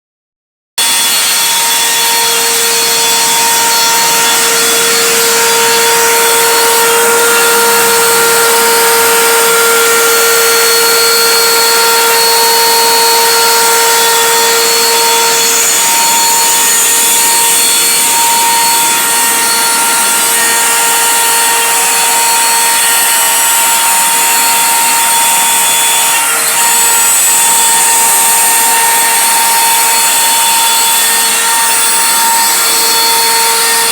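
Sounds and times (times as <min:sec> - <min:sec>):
bit rasping through wood board: 0:00.8 - 0:33.9
router spindle whining: 0:00.8 - 0:33.9.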